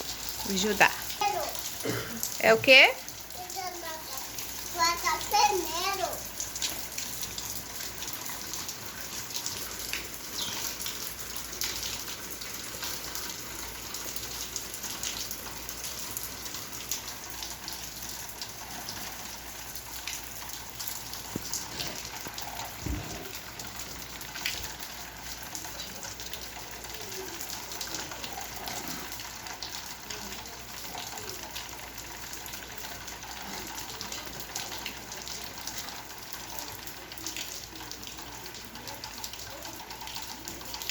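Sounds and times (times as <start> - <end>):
rain falling: 0.0 - 40.9
water running and splashing: 0.0 - 40.9.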